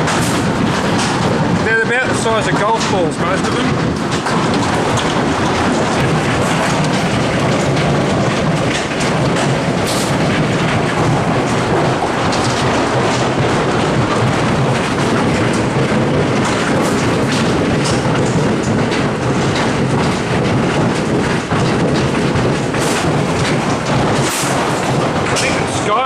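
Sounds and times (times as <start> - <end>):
heavy hail clattering: 0.0 - 26.0.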